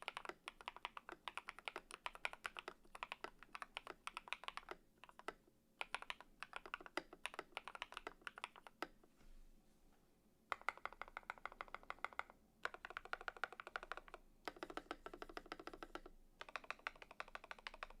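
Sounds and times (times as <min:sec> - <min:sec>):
typing on mechanical keyboard: 0:00.0 - 0:08.9, 0:10.5 - 0:18.0.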